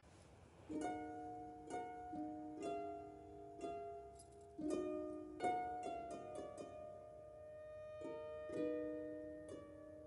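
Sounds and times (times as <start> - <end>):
gentle plucked string music: 0.6 - 10.0.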